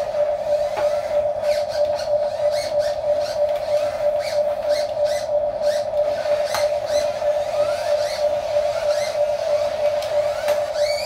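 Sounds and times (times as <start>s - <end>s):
toy excavator motor whine: 0.0s - 11.0s.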